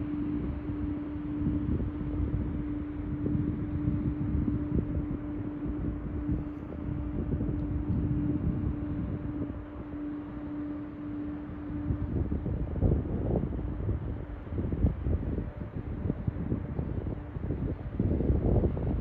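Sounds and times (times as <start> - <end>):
ship machinery hum: 0.0 - 19.0
wind noise on microphone: 0.0 - 19.0.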